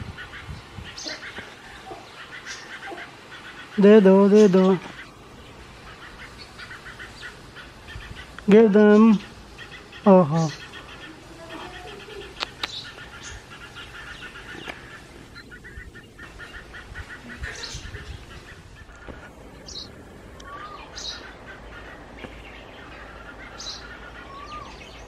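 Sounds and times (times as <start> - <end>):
sparrow fledglings chirping: 0.0 - 25.0.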